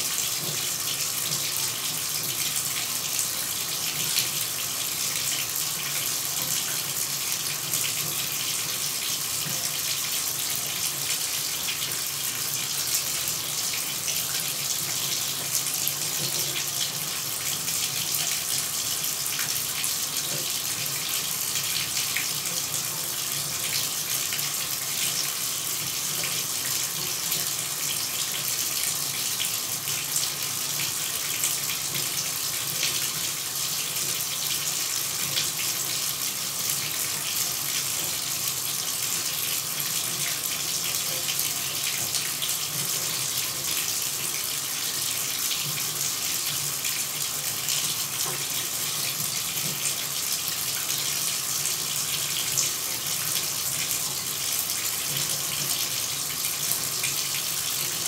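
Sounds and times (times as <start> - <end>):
shower running: 0.0 - 58.0.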